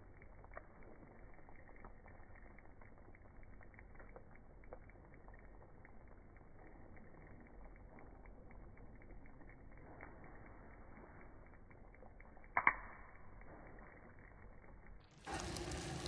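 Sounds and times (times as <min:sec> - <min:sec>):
faint sizzling in a pan: 0:00.0 - 0:16.0.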